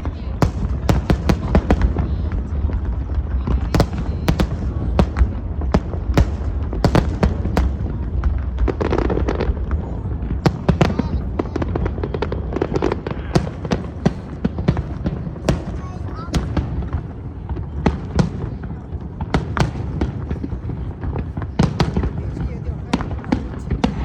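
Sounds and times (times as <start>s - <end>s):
fireworks bangs and cracks: 0.0s - 24.0s.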